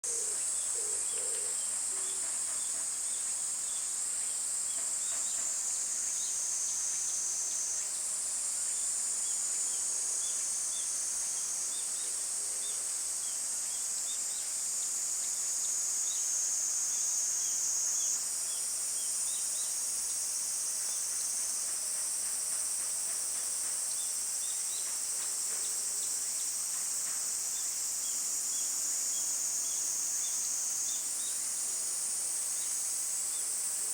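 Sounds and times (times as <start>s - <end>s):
cicadas singing: 0.0s - 33.9s.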